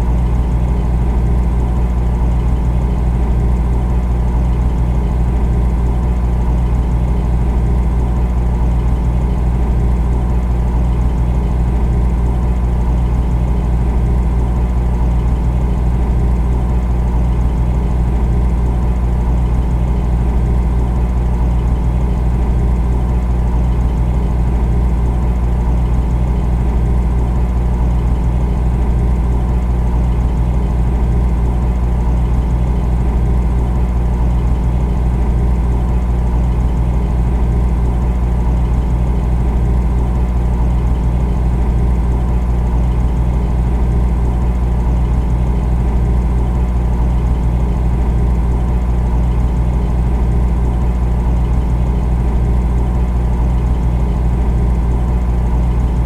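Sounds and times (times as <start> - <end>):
refrigerator hum: 0.0 - 56.0.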